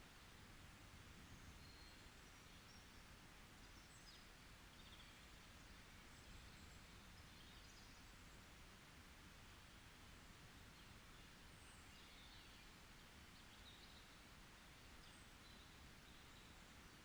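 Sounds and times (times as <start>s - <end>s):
soft forest hiss: 0.0s - 17.0s.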